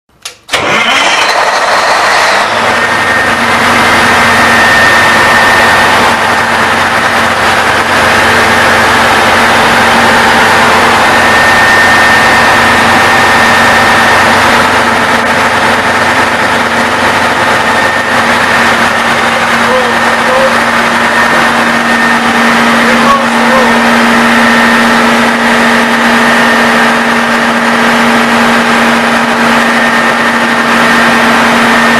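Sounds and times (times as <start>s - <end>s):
diesel generator drone: 0.5s - 31.9s.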